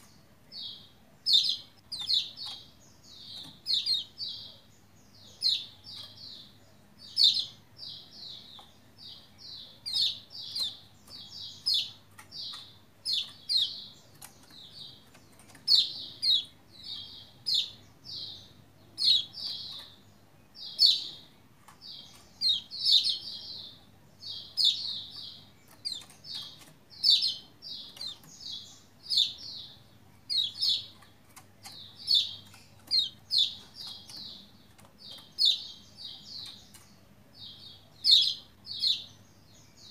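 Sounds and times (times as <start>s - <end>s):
bird chirping rapidly: 0.0s - 39.2s.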